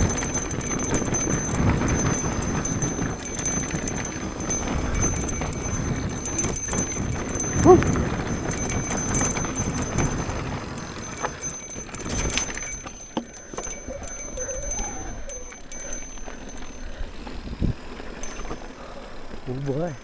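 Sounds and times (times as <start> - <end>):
bike parts rattling: 0.0 - 19.9
tyres rumbling over dirt: 0.0 - 20.0.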